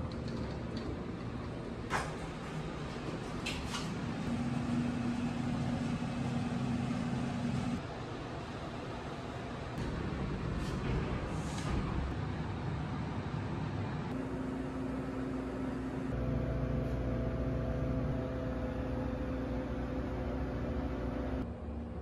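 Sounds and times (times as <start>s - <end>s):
electrical hum and hiss of machines: 0.0s - 22.0s.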